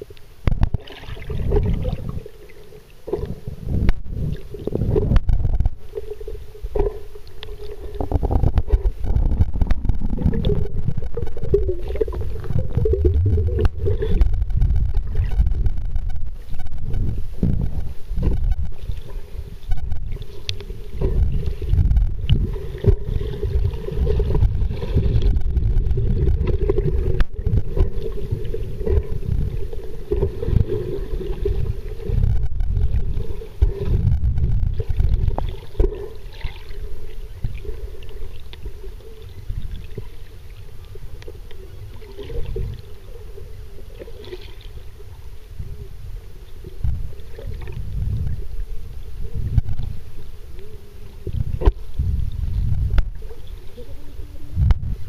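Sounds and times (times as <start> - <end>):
low hum: 0.0 - 55.0
underwater water rumble: 0.0 - 55.0.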